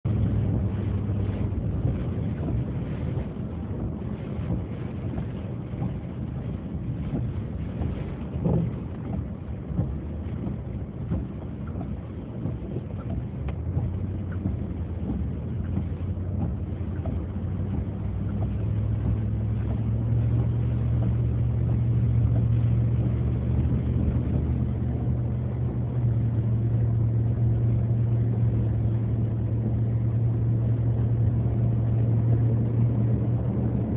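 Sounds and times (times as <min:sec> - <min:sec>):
vehicle engine hum: 0:00.0 - 0:33.9.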